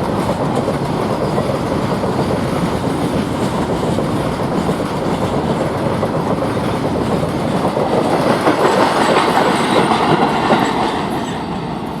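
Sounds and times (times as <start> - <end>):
train wheels clattering on rails: 0.0 - 12.0.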